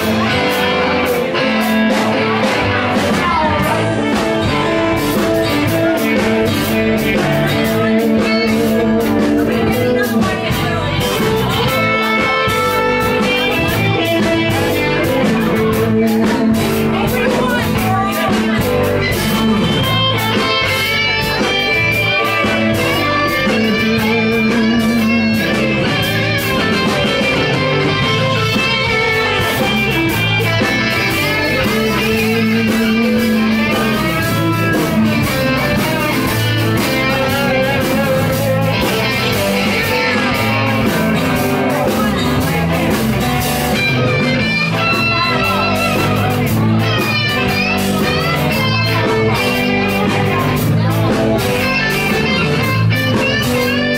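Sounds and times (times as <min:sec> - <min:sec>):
drums: 0:00.0 - 0:53.9
electric guitar lead lines: 0:00.0 - 0:53.9
strummed acoustic guitar: 0:00.0 - 0:53.9.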